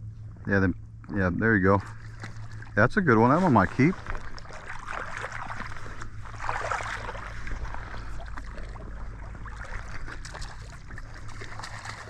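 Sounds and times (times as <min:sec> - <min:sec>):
low steady rumble: 0:00.0 - 0:12.0
shallow water splashing: 0:01.6 - 0:12.0.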